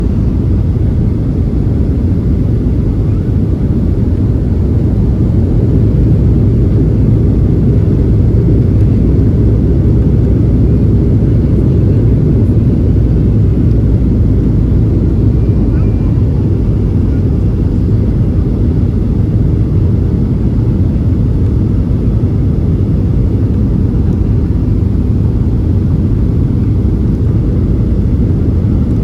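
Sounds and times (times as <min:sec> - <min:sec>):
jet engine rumble inside cabin: 0:00.0 - 0:29.0.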